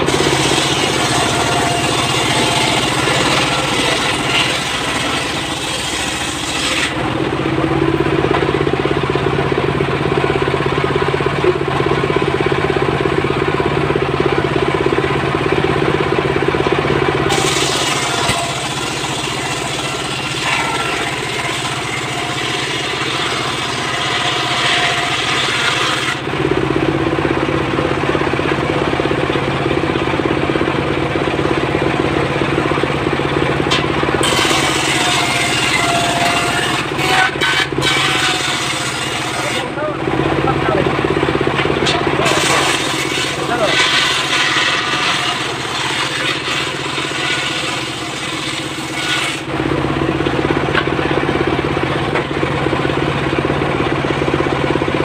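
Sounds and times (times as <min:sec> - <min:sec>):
circular saw cutting wood: 0:00.0 - 0:09.3, 0:16.7 - 0:26.7, 0:27.3 - 0:53.9
diesel engine running: 0:00.0 - 0:55.0.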